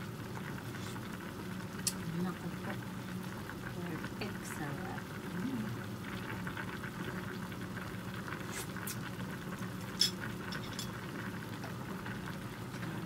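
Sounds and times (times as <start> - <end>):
soup bubbling at a boil: 0.0 - 13.0.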